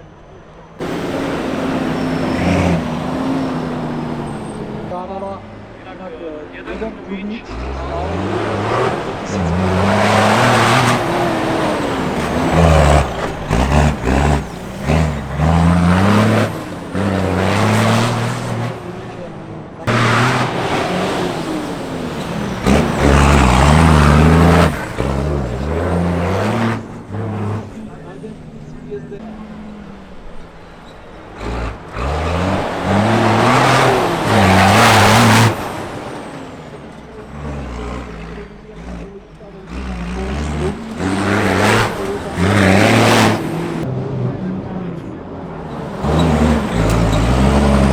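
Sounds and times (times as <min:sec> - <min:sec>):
diesel truck engine revving: 0:00.6 - 0:47.9.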